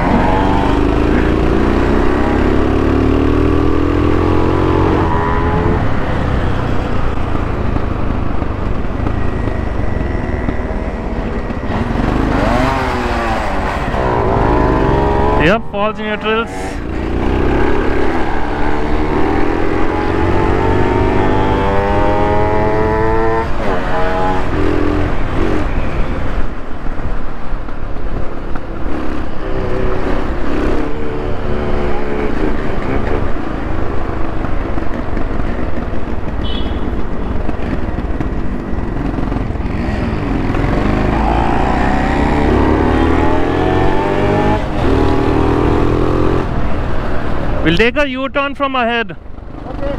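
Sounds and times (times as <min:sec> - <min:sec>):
two-stroke motorcycle engine revving: 0:00.0 - 0:26.1, 0:28.8 - 0:47.1.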